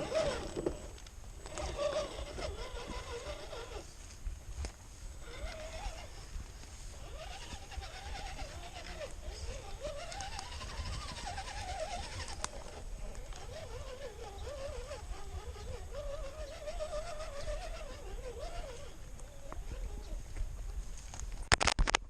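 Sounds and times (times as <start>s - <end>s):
electric motor whining: 0.0s - 21.1s.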